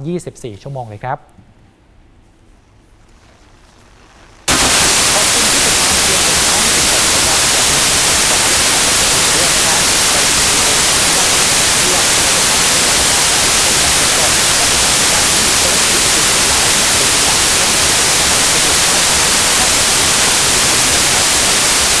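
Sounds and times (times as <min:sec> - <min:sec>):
white-noise static hiss: 0:00.0 - 0:22.0.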